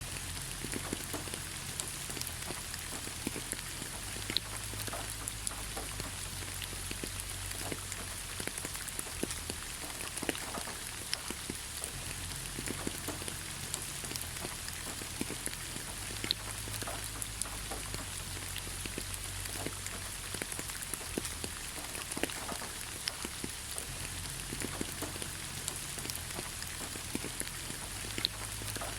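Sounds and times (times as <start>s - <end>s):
rain pattering on leaves: 0.0s - 28.9s.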